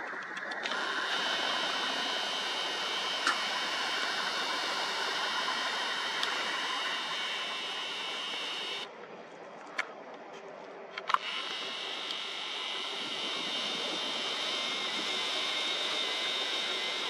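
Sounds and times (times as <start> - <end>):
camera zoom motor whirring: 0.4 - 8.9, 11.0 - 17.0.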